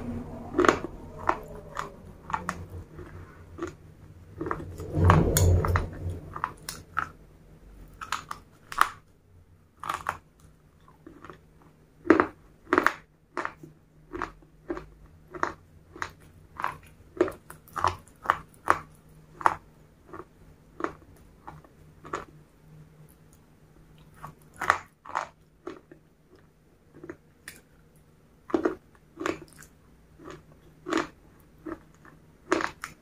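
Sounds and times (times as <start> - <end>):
crisp chewing crunches: 0.2 - 7.2, 7.8 - 9.1, 9.8 - 22.4, 24.0 - 27.8, 28.4 - 33.0.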